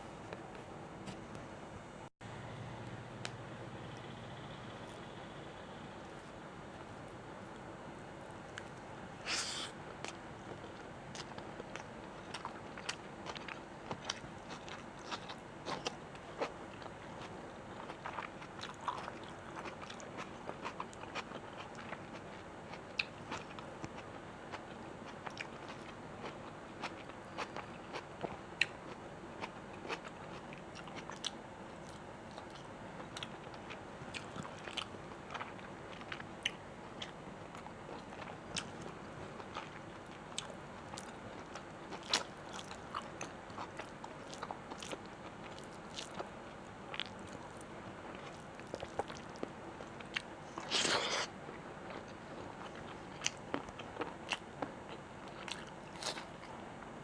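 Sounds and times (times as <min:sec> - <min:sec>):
chewing food: 0:10.0 - 0:56.6.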